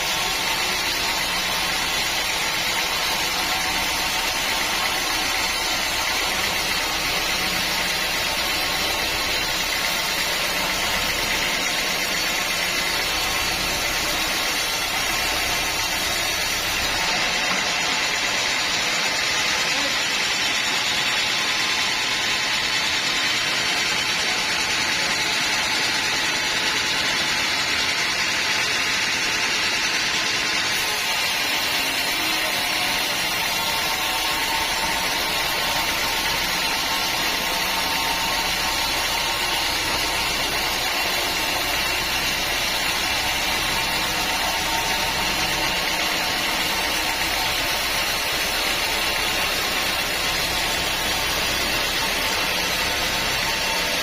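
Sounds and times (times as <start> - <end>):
sawmill saw cutting logs: 0.0 - 54.0.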